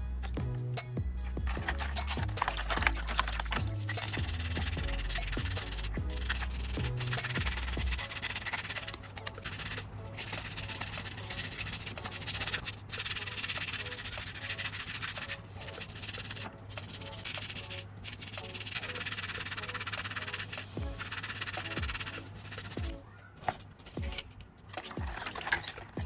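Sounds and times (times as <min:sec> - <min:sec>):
sandpaper rubbing on hard surface: 0:01.5 - 0:22.9.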